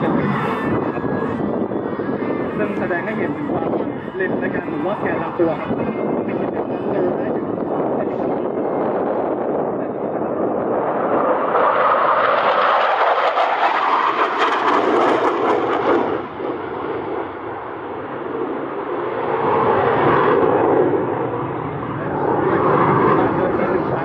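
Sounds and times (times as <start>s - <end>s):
loud rushing jet roar: 0.0s - 24.0s.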